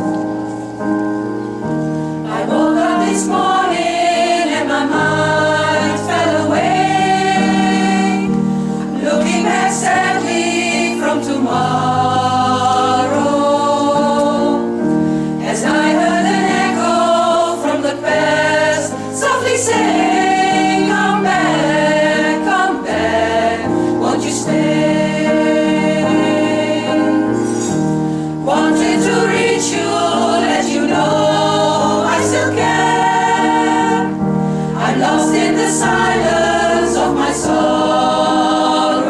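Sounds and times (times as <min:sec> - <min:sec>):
choir singing a slow ballad: 0:00.0 - 0:39.0
piano accompaniment: 0:00.0 - 0:39.0.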